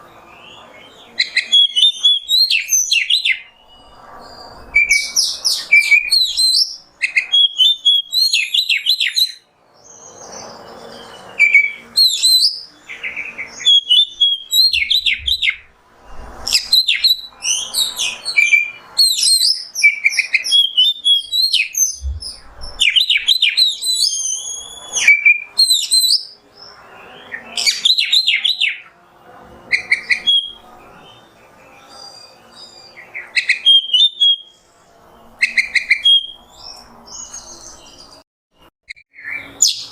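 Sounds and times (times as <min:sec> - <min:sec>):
bird singing whistles and trills: 0:00.0 - 0:28.9, 0:29.6 - 0:39.9
faint background noise: 0:00.0 - 0:39.9.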